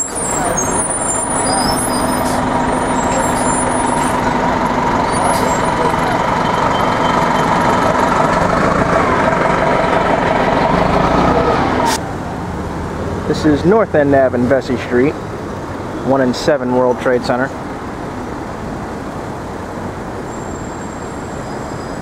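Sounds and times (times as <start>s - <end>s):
city street traffic: 0.0s - 22.0s
heavy vehicle engine droning: 0.0s - 22.0s.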